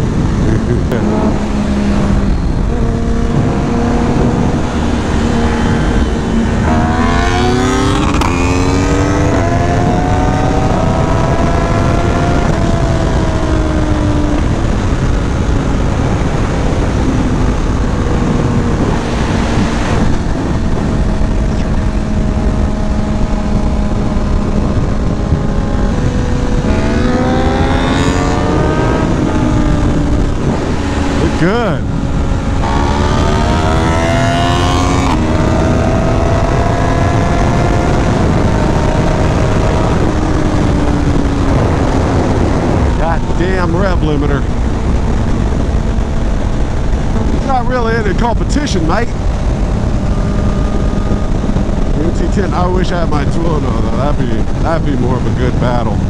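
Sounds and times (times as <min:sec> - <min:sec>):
motorcycle engine accelerating: 0:00.0 - 0:56.0
wind rushing: 0:00.0 - 0:56.0.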